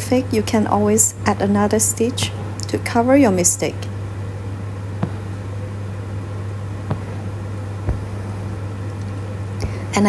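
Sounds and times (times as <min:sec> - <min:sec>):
low electrical hum with hiss: 0:00.0 - 0:10.0.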